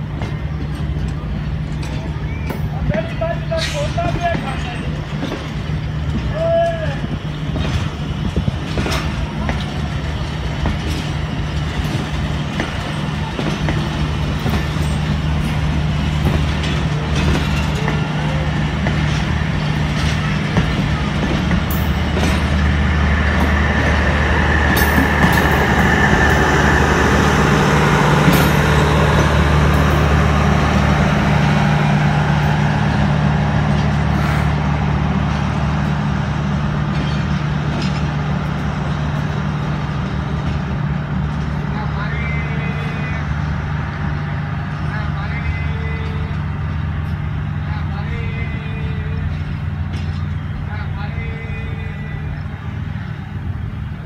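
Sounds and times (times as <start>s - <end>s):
train coaches rumbling past: 0.0s - 54.0s.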